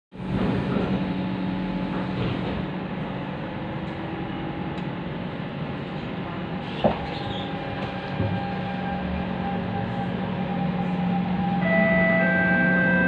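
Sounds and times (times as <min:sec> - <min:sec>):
metro train running noise: 0:00.1 - 0:13.0.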